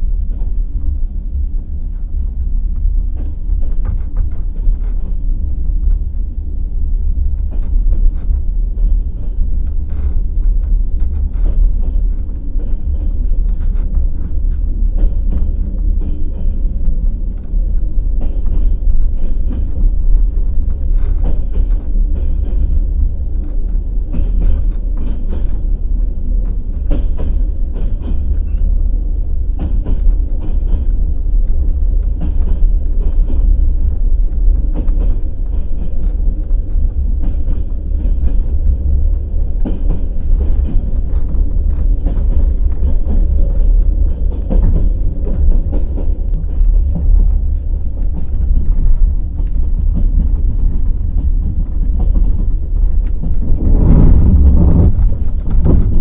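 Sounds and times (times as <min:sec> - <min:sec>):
train rumbling: 0:00.0 - 0:56.0
wheels clicking over rail joints: 0:07.2 - 0:56.0.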